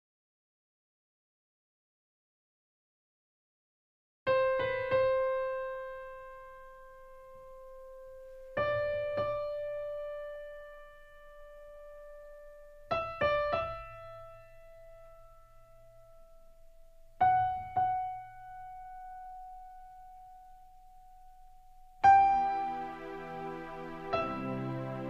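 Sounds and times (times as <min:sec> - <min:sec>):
slow solo piano: 0:04.3 - 0:25.0.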